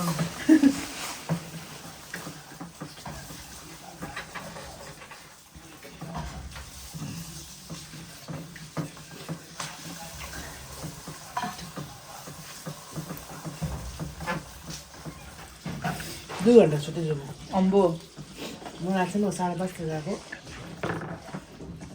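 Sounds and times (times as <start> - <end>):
utensil stirring in a pot: 0.0 - 21.9.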